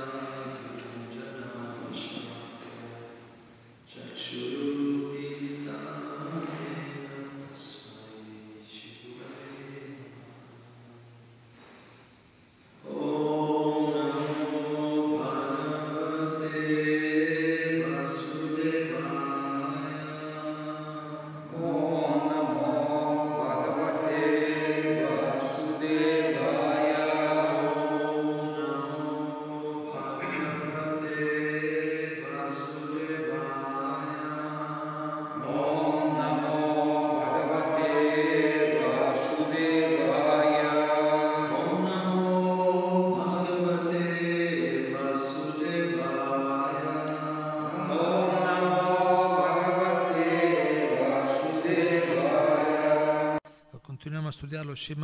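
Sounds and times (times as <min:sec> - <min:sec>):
man chanting into a microphone: 0:00.0 - 0:03.2, 0:03.9 - 0:10.9, 0:12.8 - 0:55.0.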